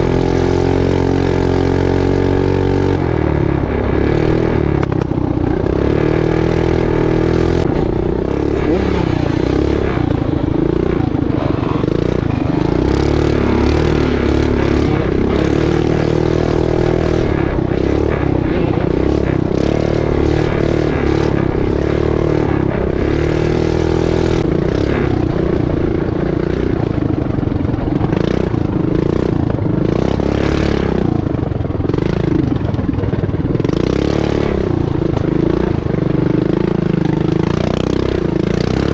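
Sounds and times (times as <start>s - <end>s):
small motorbike engine revving: 0.0s - 33.0s.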